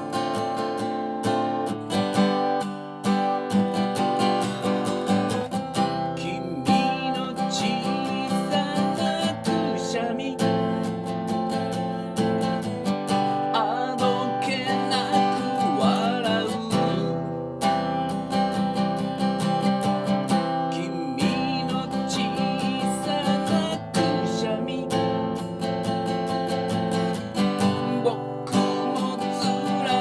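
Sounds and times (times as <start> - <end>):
strummed acoustic guitar chords: 0.0 - 30.0.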